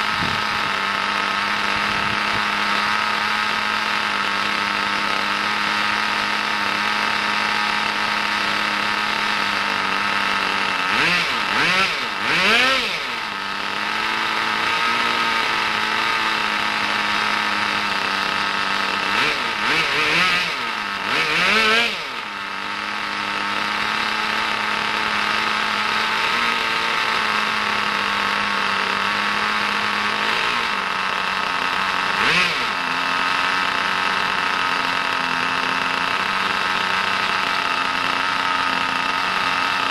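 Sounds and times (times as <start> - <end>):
model engine idling and revving: 0.0 - 39.9.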